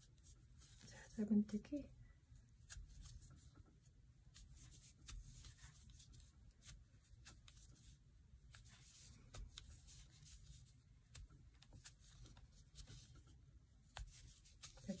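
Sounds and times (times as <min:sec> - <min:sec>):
low room hum: 0:00.0 - 0:15.0
yarn rustling: 0:02.5 - 0:15.0.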